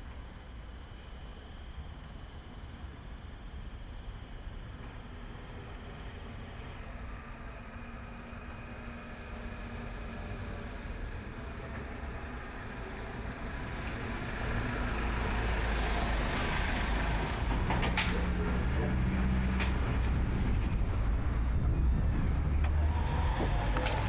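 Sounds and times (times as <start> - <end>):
van engine and tyres approaching: 0.0 - 24.0.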